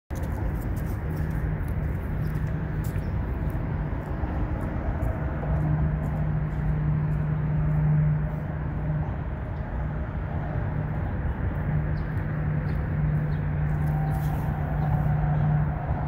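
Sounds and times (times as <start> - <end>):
city traffic rumble: 0.1 - 16.0
vehicle engine passing: 0.3 - 16.0.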